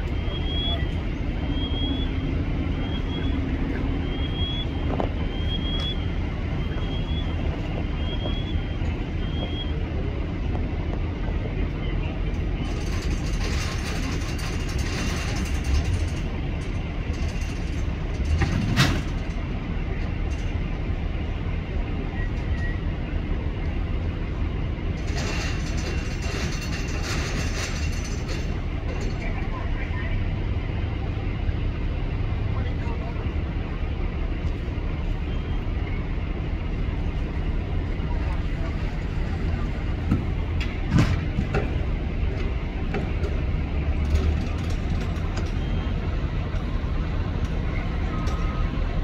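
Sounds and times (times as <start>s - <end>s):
diesel machinery rumbling: 0.0s - 49.0s.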